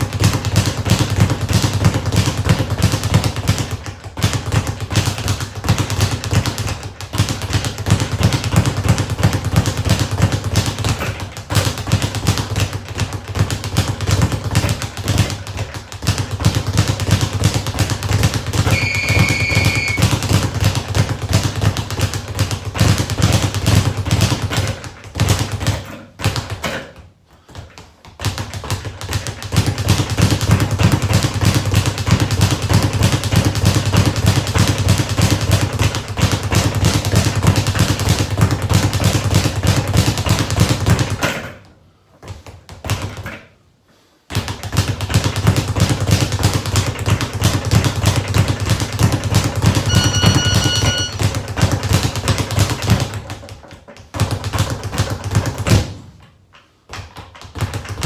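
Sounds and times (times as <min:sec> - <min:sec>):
speed bag punching thuds: 0:00.0 - 0:43.6, 0:44.3 - 0:58.0.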